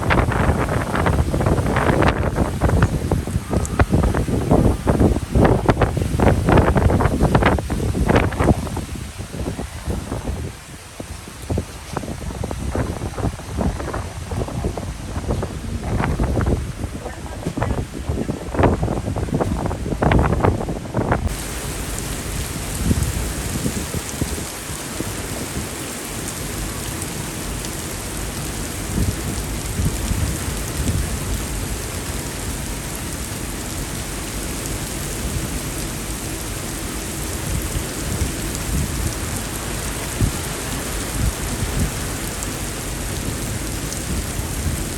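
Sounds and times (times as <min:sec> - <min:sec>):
heavy rain pouring: 0:00.0 - 0:44.9
low rumbling surges: 0:00.0 - 0:44.9.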